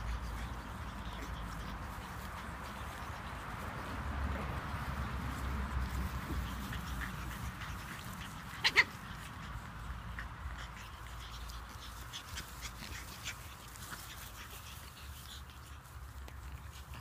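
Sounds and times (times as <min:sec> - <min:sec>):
puppies yipping and squeaking: 0:00.0 - 0:17.0.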